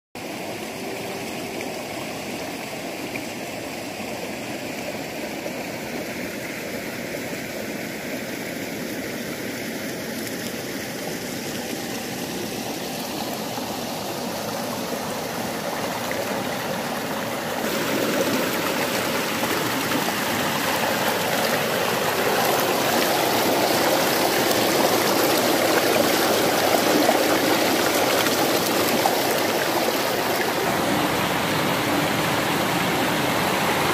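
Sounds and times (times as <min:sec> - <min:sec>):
water rushing in stream: 0:00.2 - 0:33.9.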